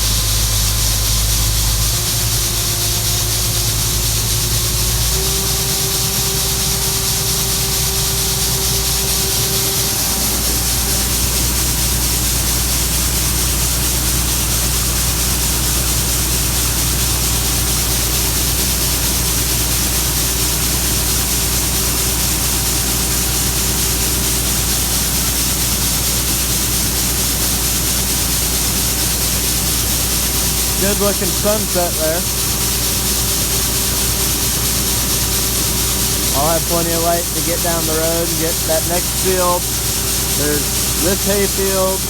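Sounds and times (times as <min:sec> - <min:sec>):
combine engine drone: 0:00.0 - 0:42.0
grain pouring: 0:00.0 - 0:42.0.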